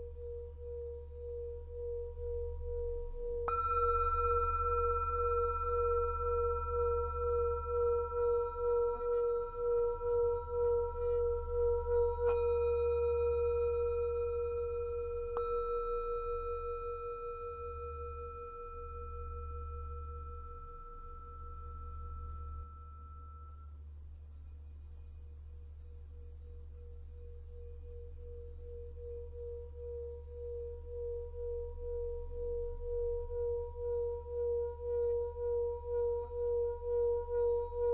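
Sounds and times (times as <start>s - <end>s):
singing bowl ringing: 0.0s - 23.8s, 26.0s - 37.9s.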